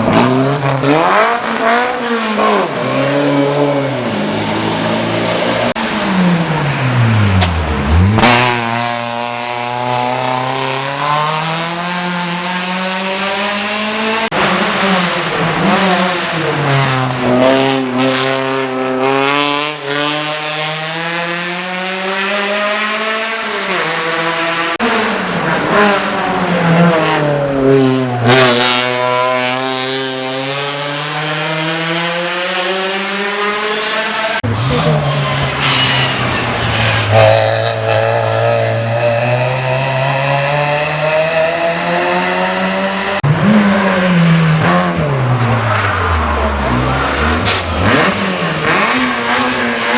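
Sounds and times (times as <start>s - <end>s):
race car engine accelerating: 0.0s - 49.9s.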